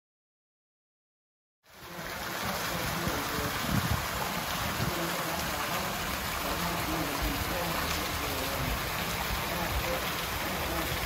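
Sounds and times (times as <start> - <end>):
fountain water splashing: 1.6 - 11.0.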